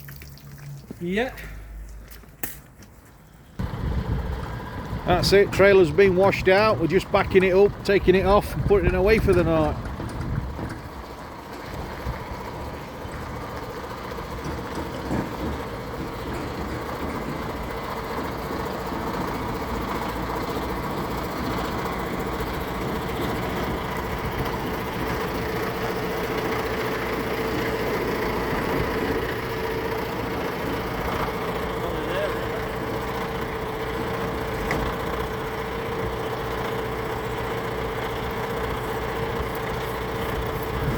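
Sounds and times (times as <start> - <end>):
tractor engine running at low revs: 0.1 - 40.9.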